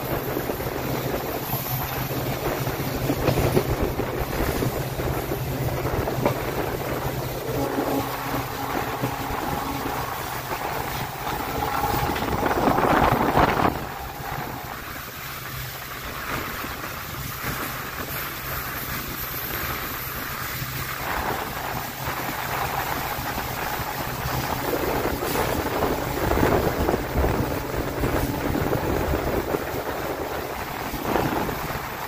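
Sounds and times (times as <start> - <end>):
train rumbling at speed: 0.0 - 32.0
wind buffeting microphone: 0.0 - 32.0.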